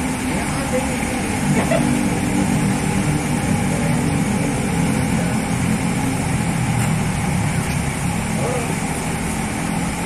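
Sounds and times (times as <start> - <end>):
bus diesel engine idling: 0.0 - 10.0.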